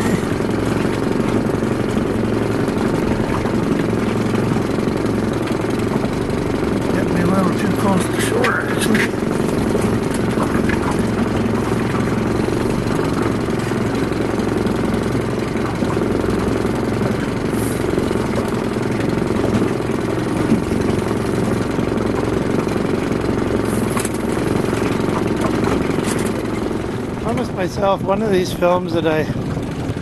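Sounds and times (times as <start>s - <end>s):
boat motor humming: 0.0s - 30.0s.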